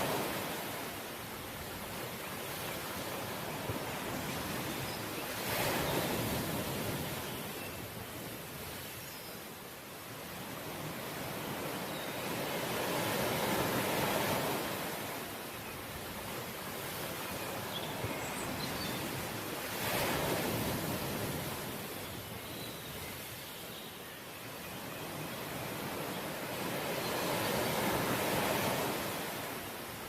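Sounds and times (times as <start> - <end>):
ocean waves washing on shore: 0.0 - 30.0.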